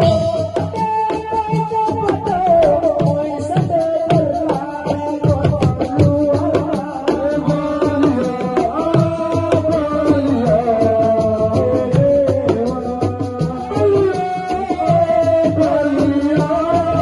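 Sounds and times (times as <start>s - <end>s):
hand drums fast rhythm: 0.0s - 17.0s.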